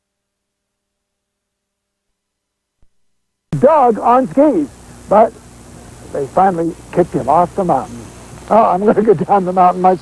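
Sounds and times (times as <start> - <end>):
faint tape hum and hiss: 0.0 - 10.0.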